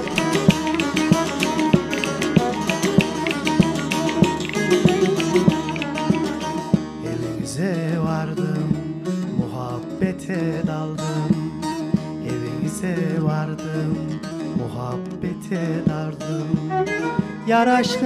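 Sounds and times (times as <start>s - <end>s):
another string instrument: 0.0s - 18.0s
plucked long-necked lute: 0.0s - 18.0s.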